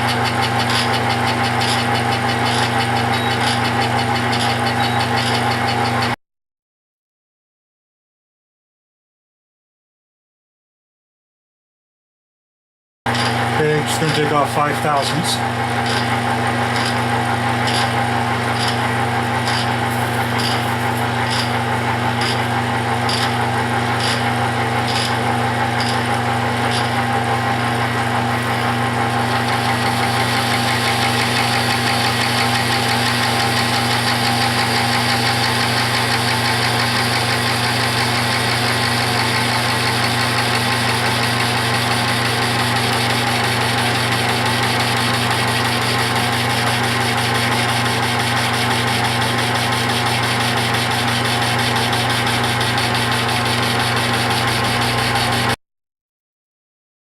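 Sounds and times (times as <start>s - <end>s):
metal lathe motor humming: 0.0s - 6.2s, 13.1s - 55.6s.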